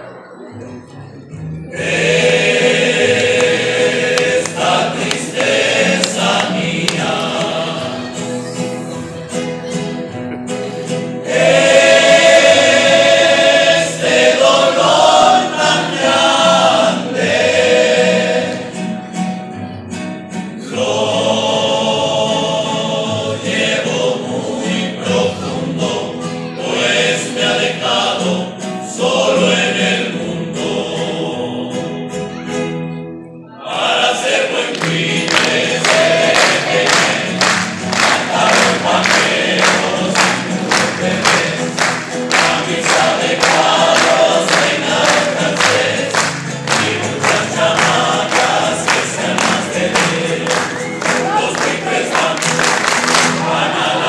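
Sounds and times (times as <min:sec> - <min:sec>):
strummed guitars: 0:00.1 - 0:54.0
male voices singing in harmony: 0:01.7 - 0:08.6, 0:10.5 - 0:19.0, 0:20.6 - 0:32.2, 0:33.6 - 0:54.0.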